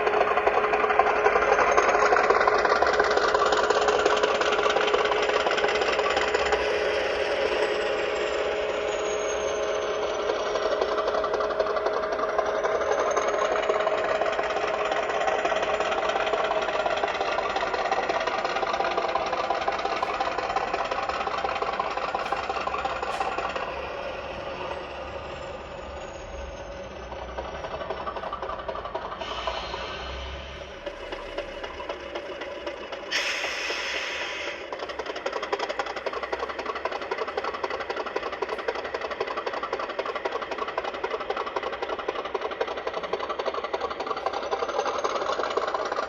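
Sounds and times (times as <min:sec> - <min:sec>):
diesel locomotive engine from small speaker: 0:00.0 - 0:46.0.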